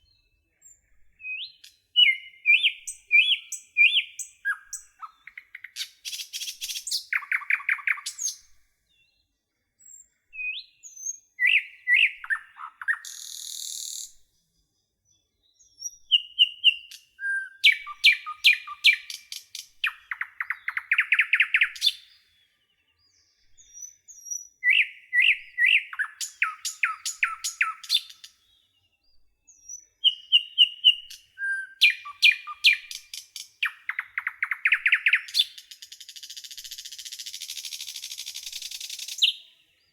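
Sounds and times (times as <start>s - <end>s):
nightingale singing: 0.0s - 9.2s, 9.8s - 39.9s.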